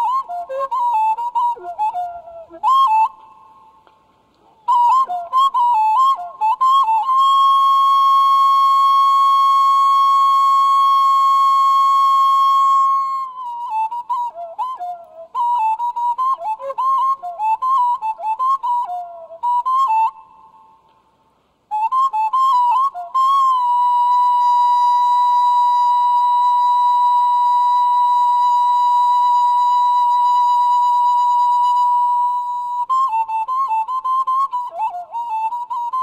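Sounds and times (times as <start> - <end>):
solo flute melody: 0.0 - 36.0.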